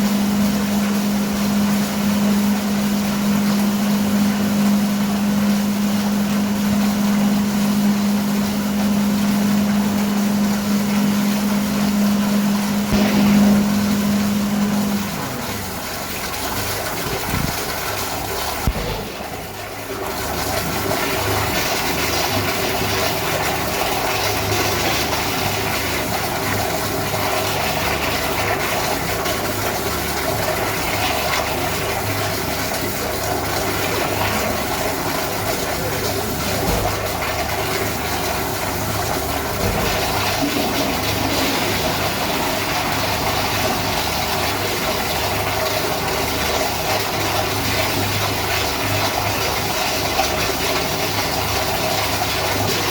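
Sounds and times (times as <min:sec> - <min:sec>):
toilet flushing continuously: 0:00.0 - 0:52.9.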